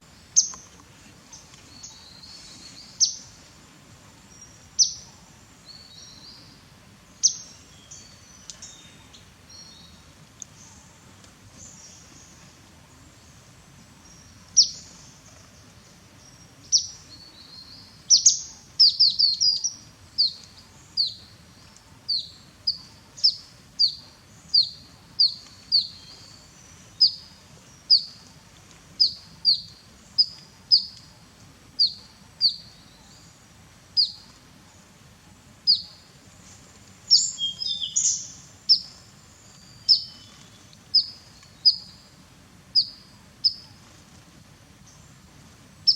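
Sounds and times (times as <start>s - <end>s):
small bird chirping: 0.0s - 3.4s, 4.3s - 10.9s, 11.6s - 35.0s, 35.6s - 44.0s
faint background noise: 0.0s - 45.9s.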